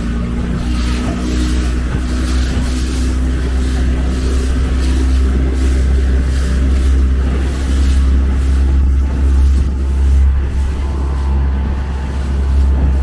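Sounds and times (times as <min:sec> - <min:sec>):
constant hum: 0:00.0 - 0:13.0
low engine-like rumble: 0:00.0 - 0:13.0.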